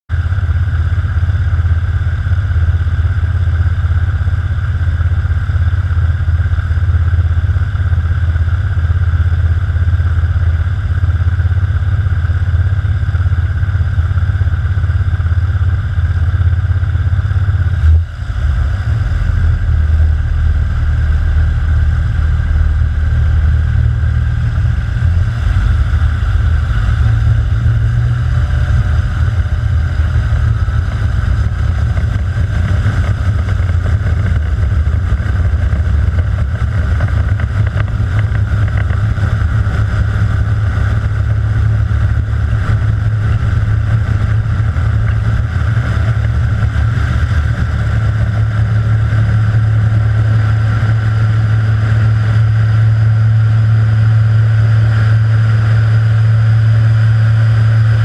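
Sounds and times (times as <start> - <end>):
plane engine and propeller running: 0.0 - 58.0.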